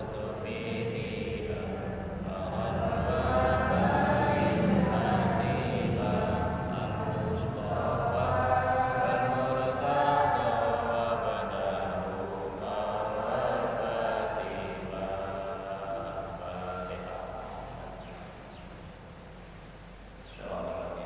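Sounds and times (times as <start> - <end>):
person chanting a prayer: 0.0 - 19.5, 20.1 - 21.0.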